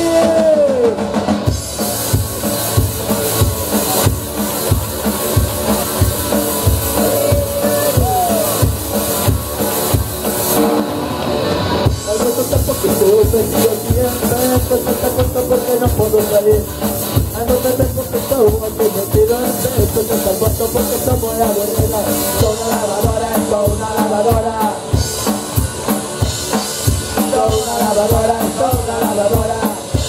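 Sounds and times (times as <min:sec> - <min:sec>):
drum kit beat: 0:00.0 - 0:30.0
live rock band playing: 0:00.0 - 0:30.0.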